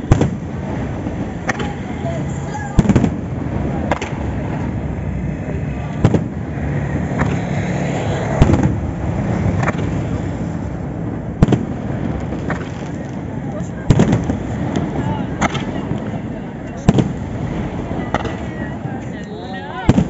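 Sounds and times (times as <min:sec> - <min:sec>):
firework shells bursting: 0:00.0 - 0:05.1, 0:05.9 - 0:18.8
low rumble: 0:00.0 - 0:19.1.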